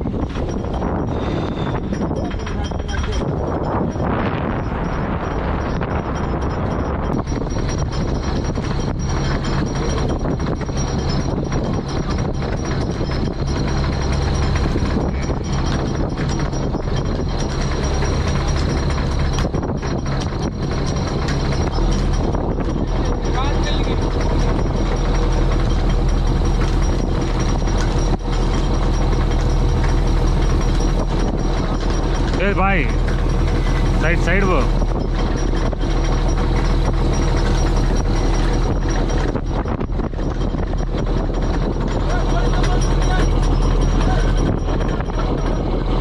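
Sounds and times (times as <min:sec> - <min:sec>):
diesel engine droning: 0:00.0 - 0:46.0
high engine whine: 0:00.0 - 0:46.0.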